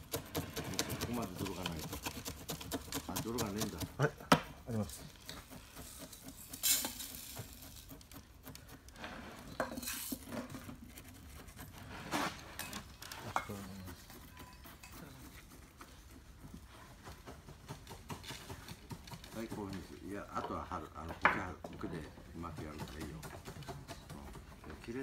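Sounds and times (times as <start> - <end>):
scraping and rustling soil: 0.0 - 21.0.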